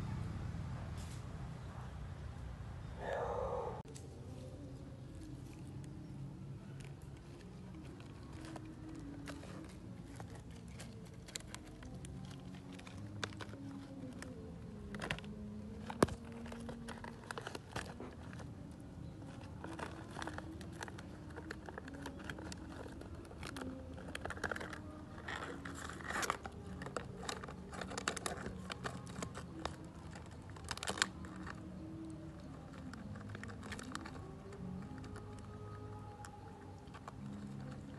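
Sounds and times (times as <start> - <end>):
puppy chewing plastic cup: 5.2 - 37.9
plastic cracking: 6.6 - 37.9.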